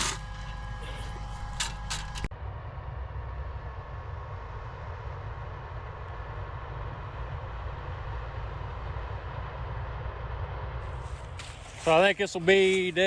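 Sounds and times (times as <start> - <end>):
faint steady whine: 0.0 - 13.0
machinery engine rumbling: 0.0 - 13.0.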